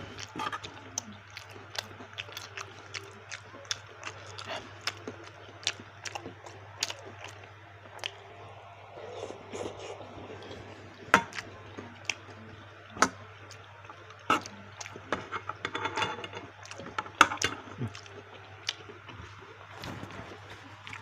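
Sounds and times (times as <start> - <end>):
mouth and utensil crackles: 0.0 - 21.0.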